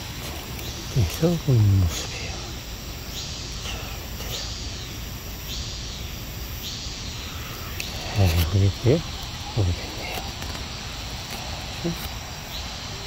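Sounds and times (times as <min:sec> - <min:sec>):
bird calling: 0:00.0 - 0:13.0
steady background hiss: 0:00.0 - 0:13.0.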